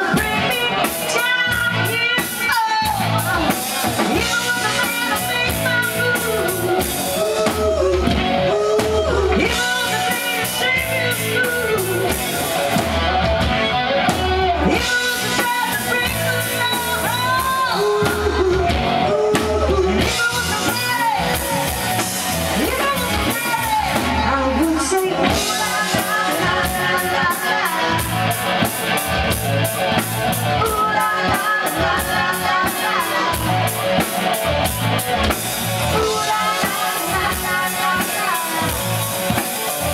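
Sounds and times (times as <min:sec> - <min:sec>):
woman singing: 0:00.0 - 0:12.8, 0:14.2 - 0:28.4, 0:30.4 - 0:34.1, 0:35.8 - 0:39.9
live rock band: 0:00.0 - 0:39.9.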